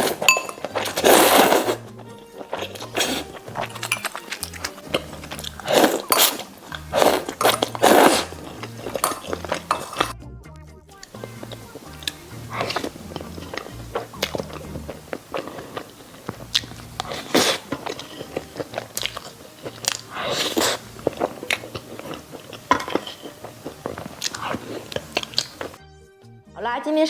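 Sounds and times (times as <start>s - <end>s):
person biting and chewing: 0.0s - 10.2s, 11.0s - 25.8s
soft background music: 0.0s - 27.0s.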